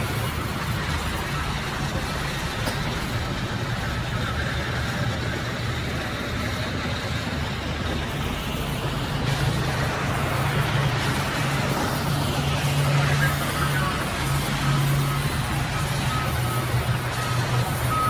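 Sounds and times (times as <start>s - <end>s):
band saw cutting through log: 0.0s - 18.0s.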